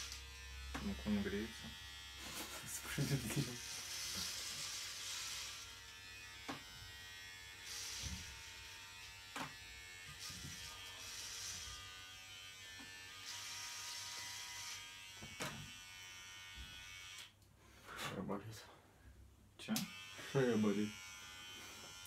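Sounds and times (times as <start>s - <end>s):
electric hair clippers buzzing: 0.0s - 17.4s, 19.8s - 22.0s.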